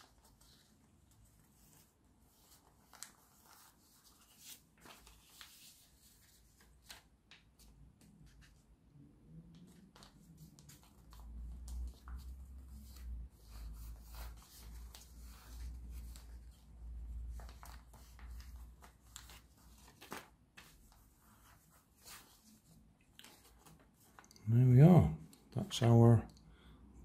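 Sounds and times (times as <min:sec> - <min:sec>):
paper rustling and crinkling: 0:00.0 - 0:08.7, 0:09.5 - 0:24.3.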